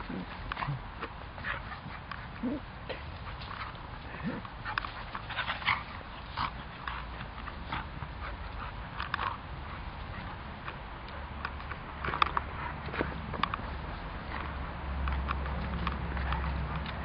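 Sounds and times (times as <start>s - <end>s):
dogs play-fighting: 0.0s - 17.0s.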